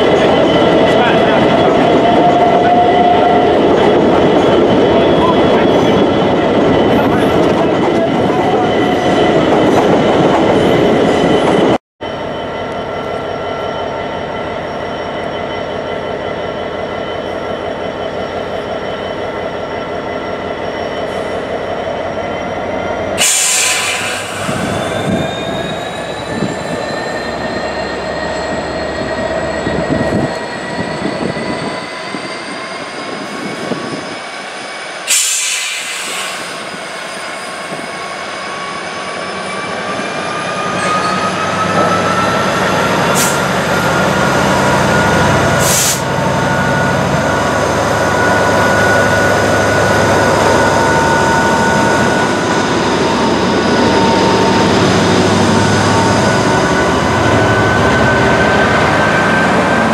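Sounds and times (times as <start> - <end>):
diesel locomotive whining: 0.0 - 59.9.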